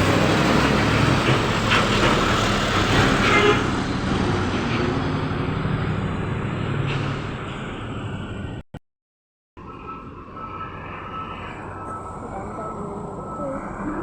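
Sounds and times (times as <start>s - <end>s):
passing truck engine and tyres: 0.0s - 8.6s, 9.6s - 14.0s.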